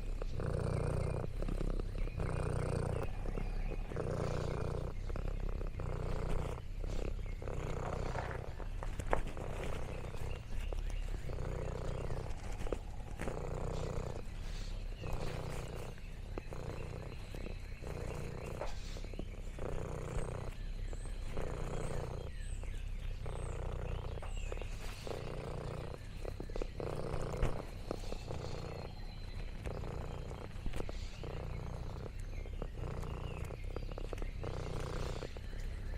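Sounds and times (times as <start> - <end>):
cat purring: 0.0 - 35.9
faint high bird chirps: 0.0 - 35.9.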